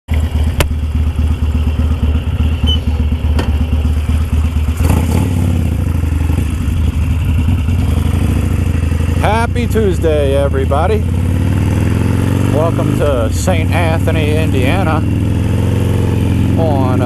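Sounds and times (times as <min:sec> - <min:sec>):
motorcycle engine idling: 0:00.1 - 0:17.0.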